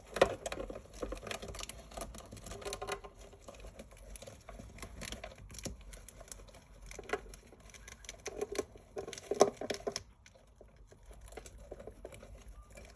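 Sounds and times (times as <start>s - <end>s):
hamsters scrabbling and clicking: 0.0s - 12.9s.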